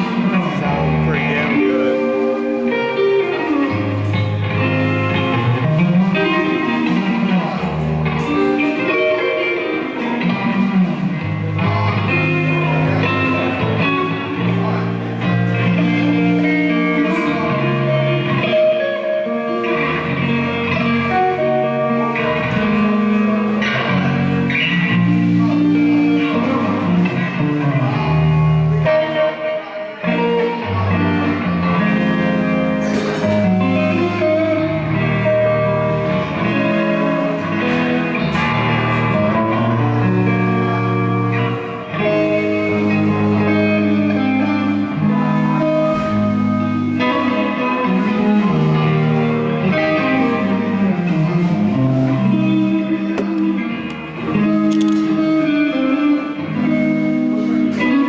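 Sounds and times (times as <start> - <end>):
electric guitar riffs: 0.0 - 58.0.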